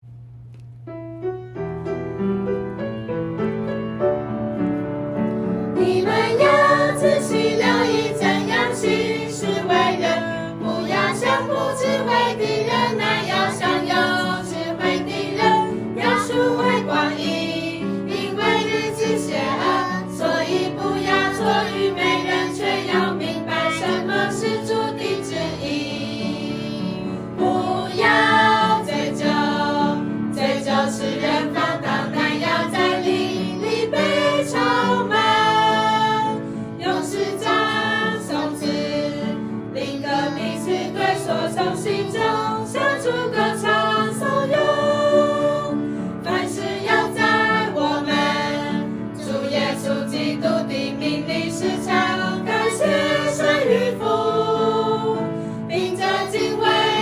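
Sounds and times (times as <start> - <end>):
choir singing worship song: 5.6 - 57.0.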